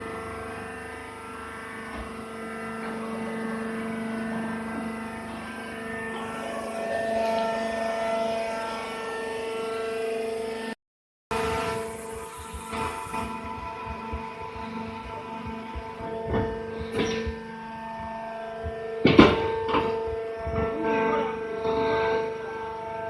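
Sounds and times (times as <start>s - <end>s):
machine droning hum: 0.0s - 23.0s.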